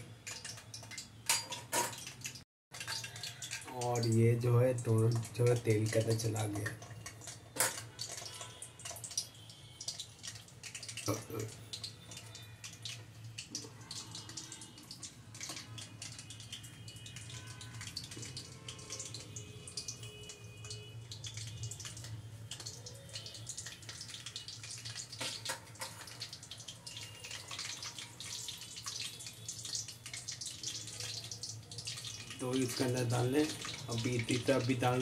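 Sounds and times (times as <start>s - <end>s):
dough sizzling in hot oil: 0.0s - 35.0s.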